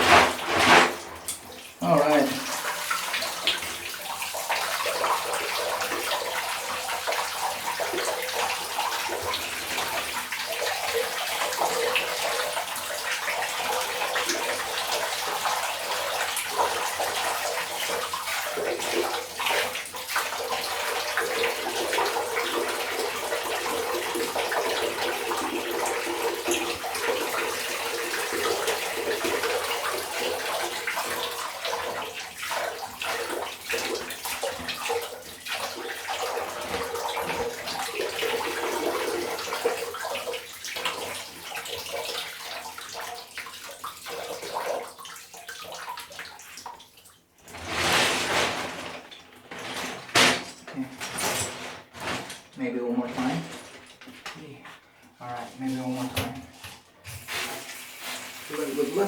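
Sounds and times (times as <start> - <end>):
tap water splashing in a sink: 0.0 - 59.0.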